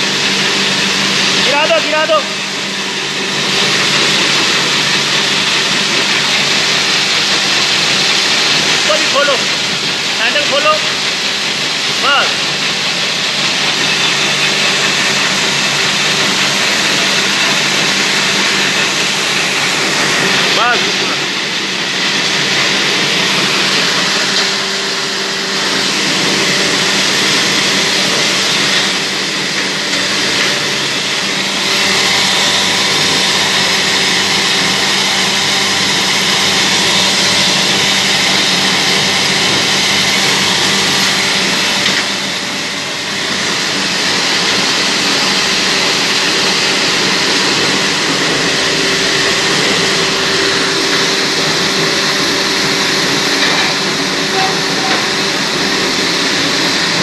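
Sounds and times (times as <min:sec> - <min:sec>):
feed grinding machinery drone: 0:00.0 - 0:57.0.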